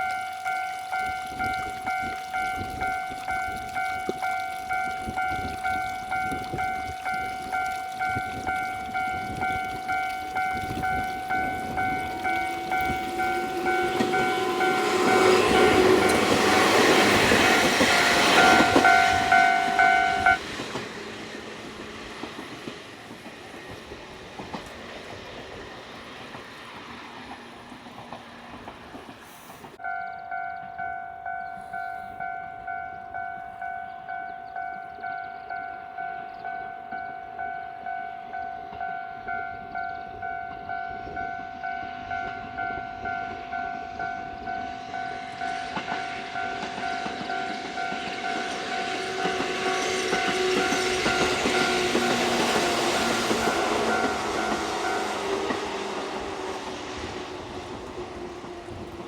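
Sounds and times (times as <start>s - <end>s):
level crossing alarm ringing: 0.0s - 20.6s, 29.8s - 57.1s
train passing: 0.0s - 59.0s.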